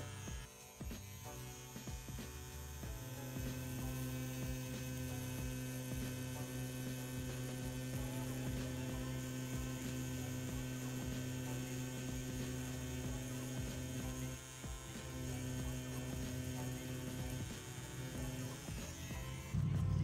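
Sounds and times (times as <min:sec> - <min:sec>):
tattoo pen motor humming: 0:00.0 - 0:20.0.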